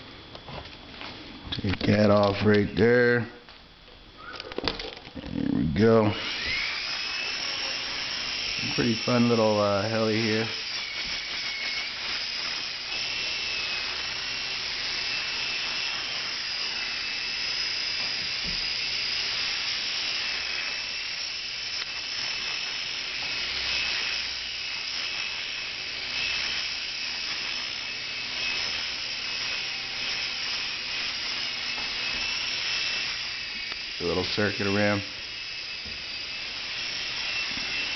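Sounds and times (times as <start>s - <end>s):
toy helicopter rotor whine: 4.0s - 37.9s.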